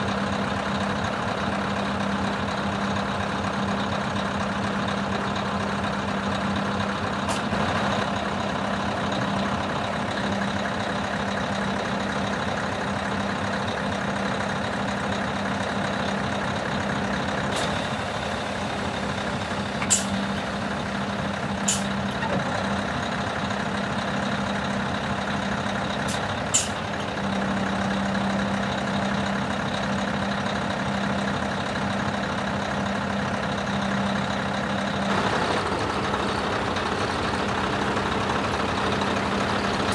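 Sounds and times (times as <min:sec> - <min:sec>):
diesel truck engine humming: 0:00.0 - 0:39.9.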